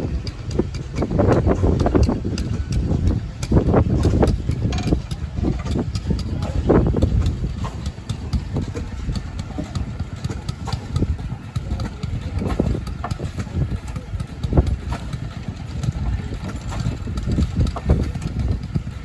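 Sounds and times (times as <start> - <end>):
low thumps and knocks: 0.0 - 19.0
stationary engine running: 0.0 - 19.0.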